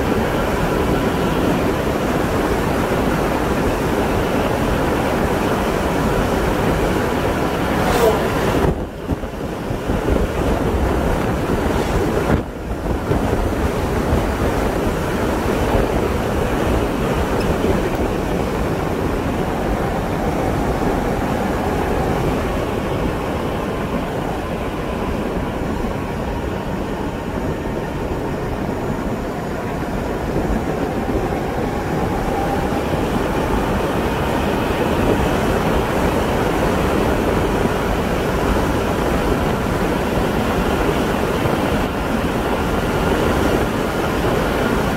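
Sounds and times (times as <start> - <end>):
road and tyre noise: 0.0 - 44.9
wind rushing over microphone: 0.0 - 44.9.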